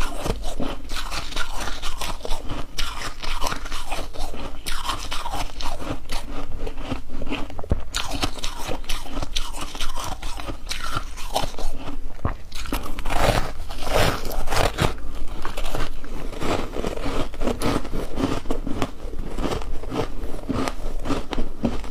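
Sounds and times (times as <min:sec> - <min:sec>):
ice crunching between teeth: 0:00.0 - 0:21.9.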